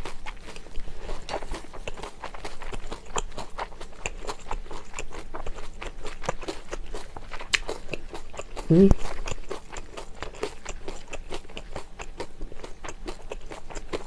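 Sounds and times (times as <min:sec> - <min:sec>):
wet chewing mouth clicks: 0:00.0 - 0:14.0.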